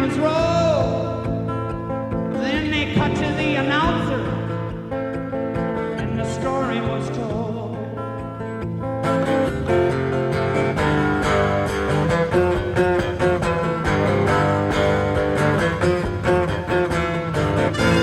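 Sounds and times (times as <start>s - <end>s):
bass guitar: 0.0s - 18.0s
guitar playing quick picked notes: 0.5s - 18.0s.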